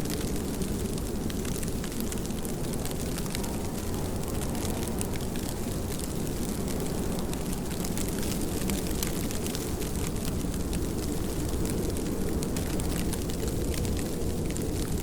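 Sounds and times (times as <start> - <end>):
raindrops ticking: 0.0 - 15.0
steady rain: 0.0 - 15.0.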